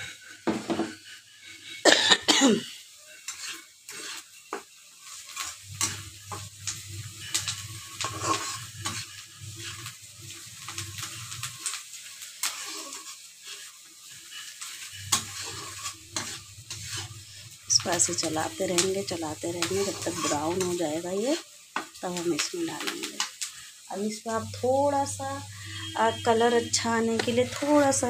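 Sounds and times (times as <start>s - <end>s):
spatula scraping metal pan: 0.0s - 1.8s, 3.1s - 21.4s, 25.5s - 28.0s
onions sizzling in hot oil: 0.0s - 28.0s.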